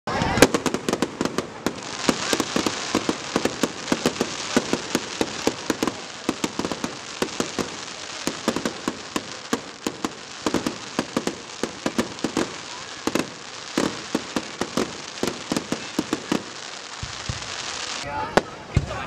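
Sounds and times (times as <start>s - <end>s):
fireworks crackling pops: 0.1s - 19.0s
hiss of burning sparks: 0.2s - 18.0s.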